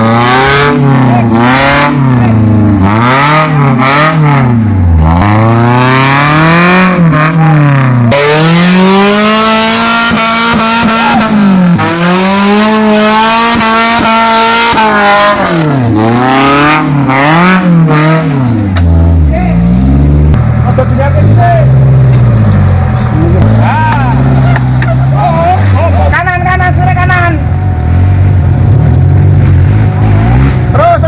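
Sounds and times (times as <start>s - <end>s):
off-road vehicle engine revving: 0.0s - 31.0s.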